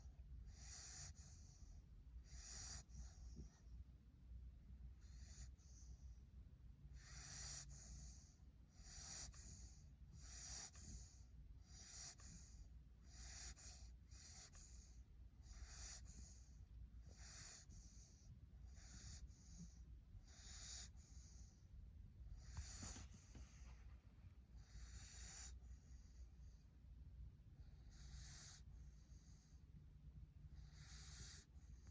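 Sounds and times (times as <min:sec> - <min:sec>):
puppy snoring: 0:00.4 - 0:03.7, 0:04.9 - 0:06.2, 0:06.9 - 0:21.7, 0:22.3 - 0:23.9, 0:24.6 - 0:26.6, 0:27.6 - 0:29.6, 0:30.5 - 0:31.9.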